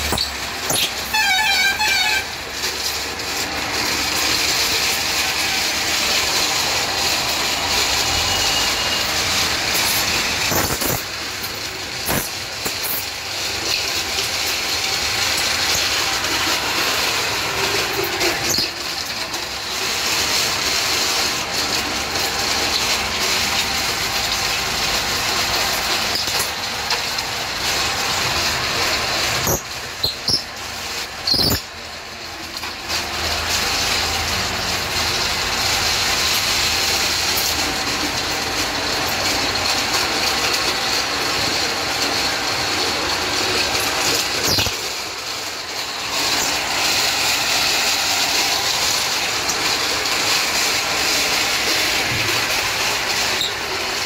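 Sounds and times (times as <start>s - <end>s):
trowel disc scraping ground: 0.0s - 31.8s, 32.4s - 54.0s.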